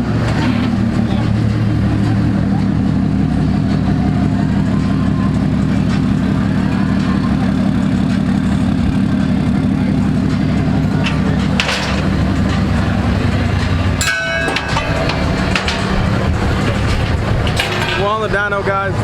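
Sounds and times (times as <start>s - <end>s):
diesel truck engine droning: 0.0s - 19.0s.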